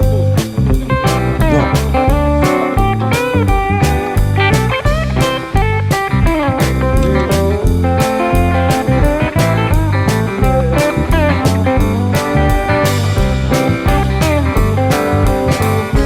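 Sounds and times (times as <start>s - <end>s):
bass line: 0.0s - 16.0s
blues guitar tune: 0.0s - 16.0s
steady drum beat: 0.0s - 16.0s.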